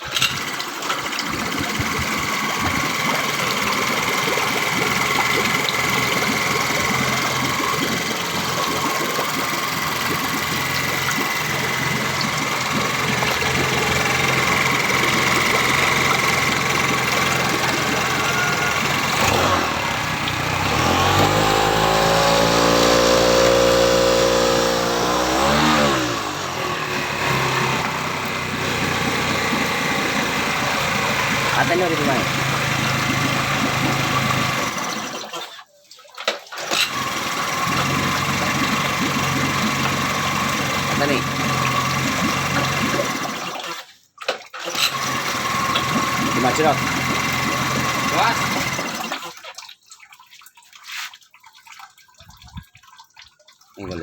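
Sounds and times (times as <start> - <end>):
four-stroke engine running: 0.0 - 35.3, 36.6 - 43.7, 44.7 - 49.3.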